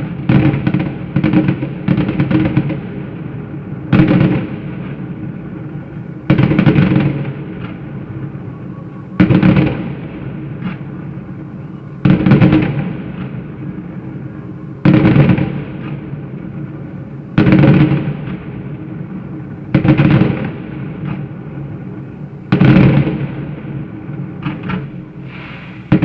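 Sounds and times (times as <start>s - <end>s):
fireworks booms: 0.0s - 26.0s
rumbling echo: 0.0s - 26.0s.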